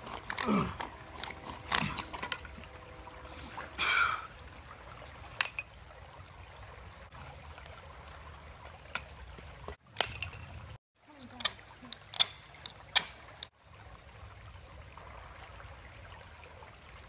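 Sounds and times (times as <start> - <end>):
creek trickling over rocks: 0.0 - 17.0.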